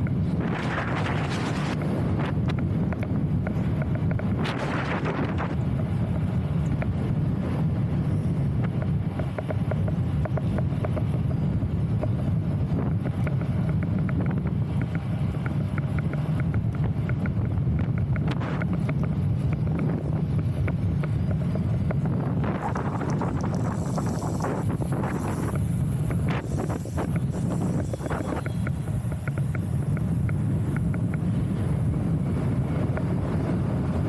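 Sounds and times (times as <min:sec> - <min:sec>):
faint clicks and ticks: 0:00.0 - 0:34.0
wind buffeting microphone: 0:00.0 - 0:34.0.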